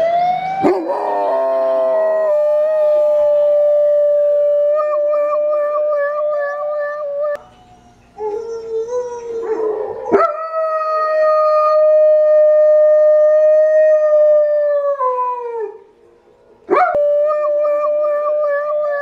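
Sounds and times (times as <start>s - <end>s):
dog howling: 0.0s - 15.7s.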